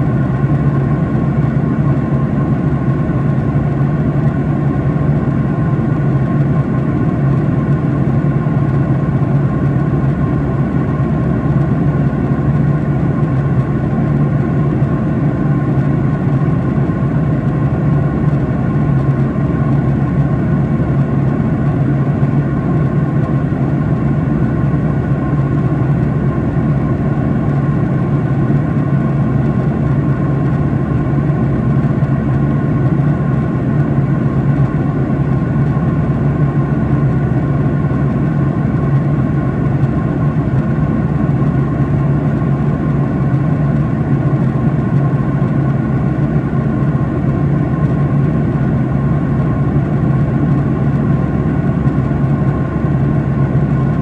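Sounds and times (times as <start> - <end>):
jet engine cabin hum: 0.0 - 54.0.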